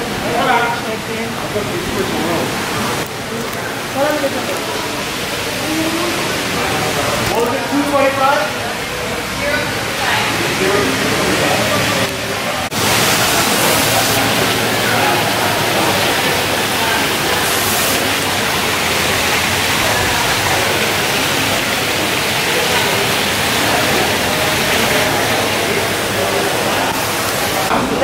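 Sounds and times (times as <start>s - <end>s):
fountain splashing into pool: 0.0s - 28.0s.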